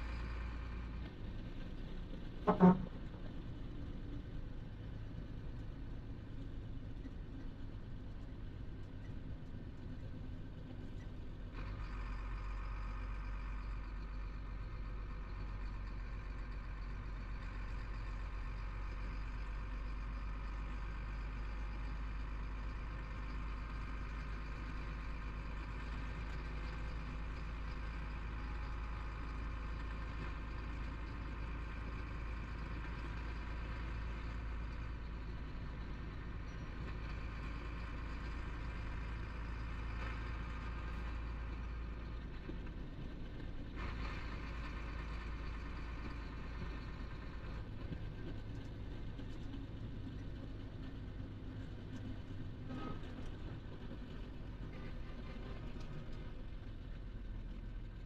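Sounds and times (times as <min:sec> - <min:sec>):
truck diesel engine drone: 0:00.0 - 0:58.0.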